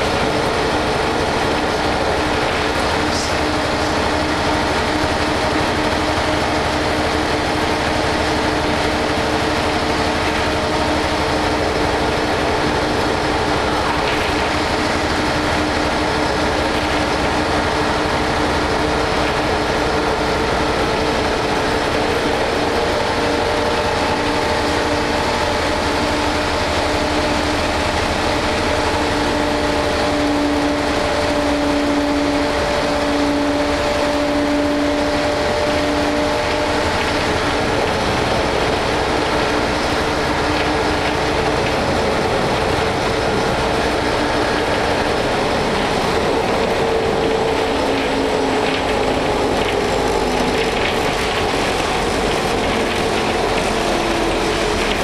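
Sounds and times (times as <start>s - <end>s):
bus diesel engine droning: 0.0s - 55.0s.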